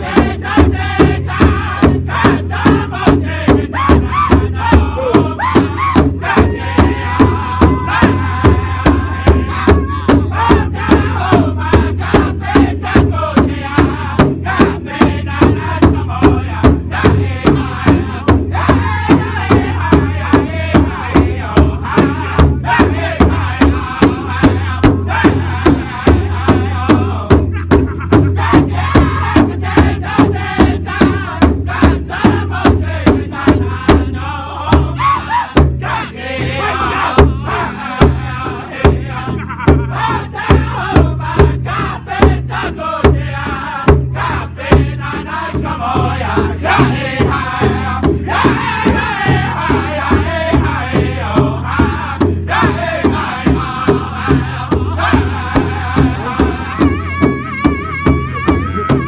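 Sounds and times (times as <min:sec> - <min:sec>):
large bass drum beat: 0:00.0 - 0:59.0
men singing in high voices: 0:00.0 - 0:59.0.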